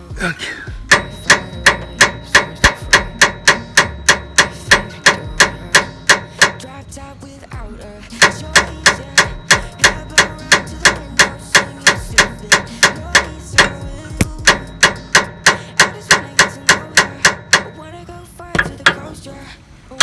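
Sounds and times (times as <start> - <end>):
hammer striking metal: 0.7 - 7.0, 8.2 - 17.9, 18.5 - 19.3.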